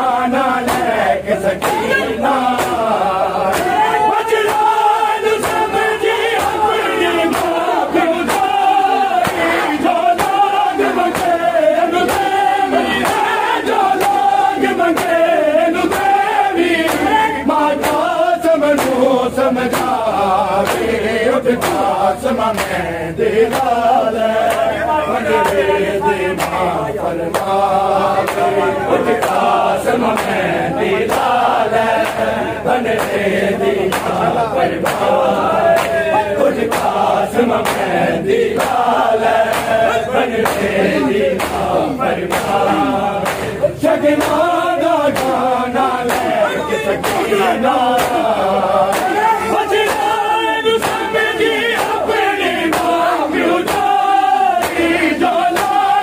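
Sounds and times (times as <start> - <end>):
men chanting a lament in unison: 0.0 - 56.0.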